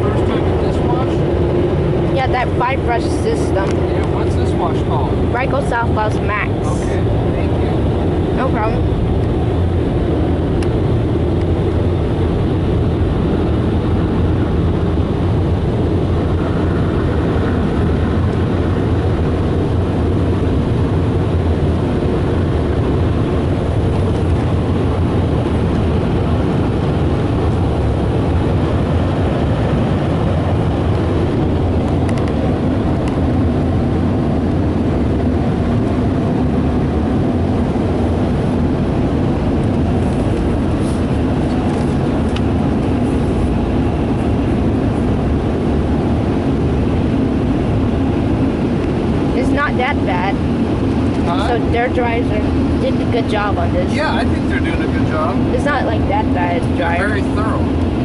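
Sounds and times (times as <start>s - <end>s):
car wash air dryers blowing: 0.0s - 58.0s.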